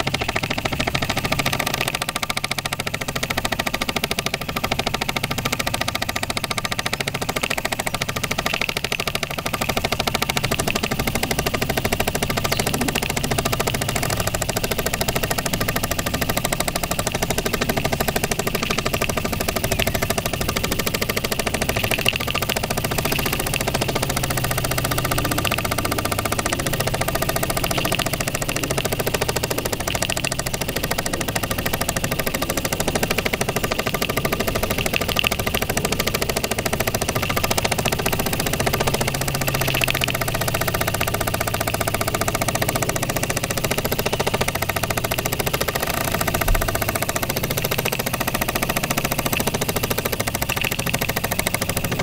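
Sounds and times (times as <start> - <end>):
model steam engine chuffing: 0.0 - 52.0.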